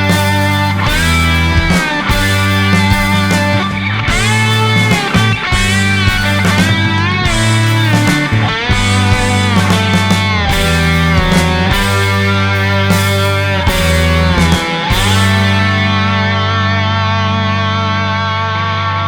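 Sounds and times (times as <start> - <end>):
rock music with guitar: 0.0 - 19.0
sustained bass notes: 0.0 - 19.0.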